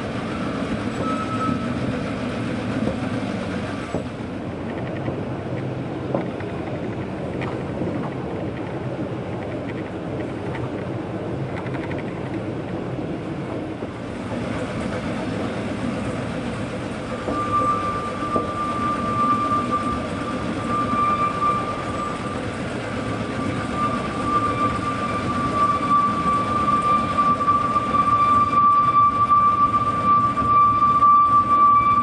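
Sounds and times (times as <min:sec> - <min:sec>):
steady high whine: 0:00.0 - 0:32.0
train wheels rumbling on rails: 0:00.0 - 0:32.0.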